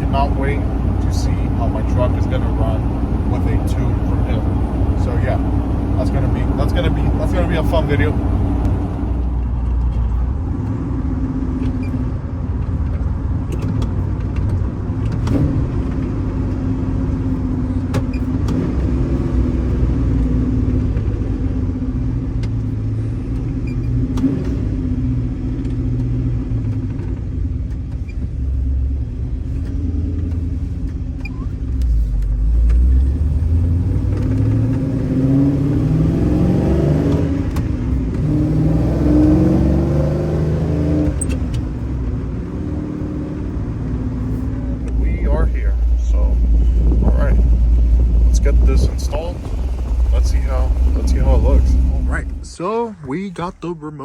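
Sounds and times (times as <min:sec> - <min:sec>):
pickup truck engine rumbling: 0:00.0 - 0:54.0.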